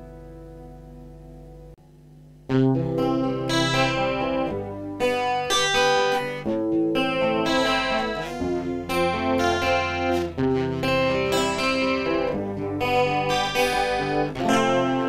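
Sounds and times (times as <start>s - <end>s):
guitar fingerpicking and strumming: 2.5s - 15.0s.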